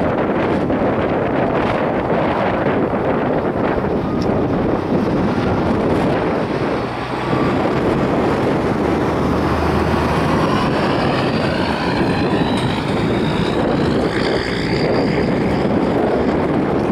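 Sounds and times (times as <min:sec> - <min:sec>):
faint vehicle noise: 0:00.0 - 0:16.9
wind buffeting microphone: 0:00.0 - 0:16.9.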